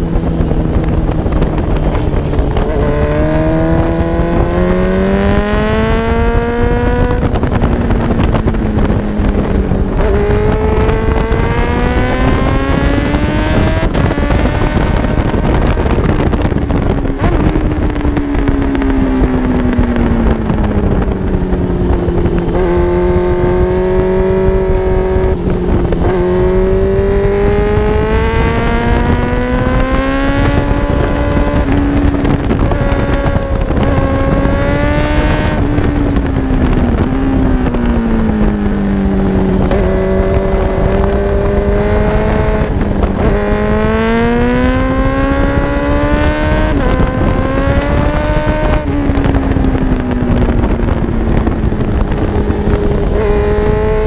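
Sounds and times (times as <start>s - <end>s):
motorcycle engine revving through gears: 0.0s - 54.0s
wind noise: 0.0s - 54.0s.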